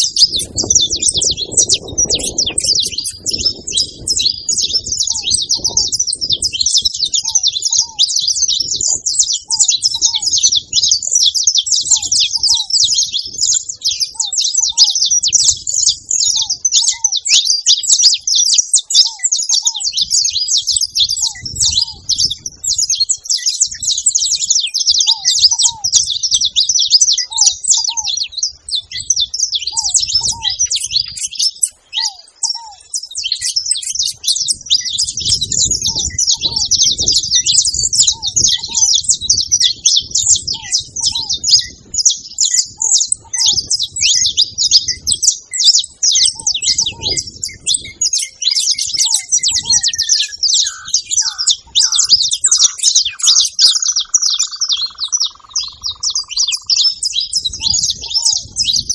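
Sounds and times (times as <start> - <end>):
finches chirping and singing: 0.0 - 58.9.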